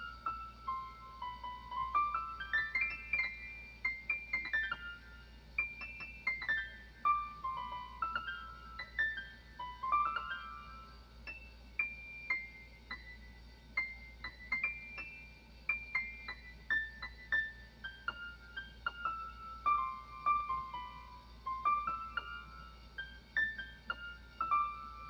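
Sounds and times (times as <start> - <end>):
piano single-note melody: 0.0 - 13.2, 13.8 - 25.0.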